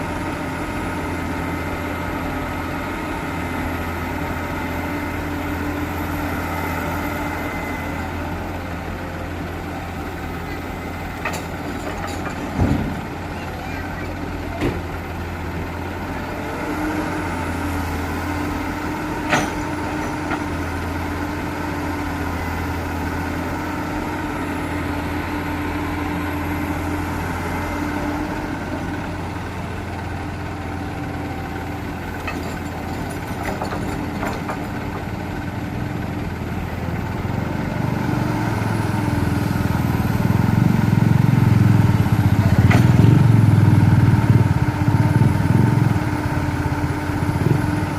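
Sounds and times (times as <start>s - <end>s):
heavy machinery diesel engine: 0.0s - 47.9s.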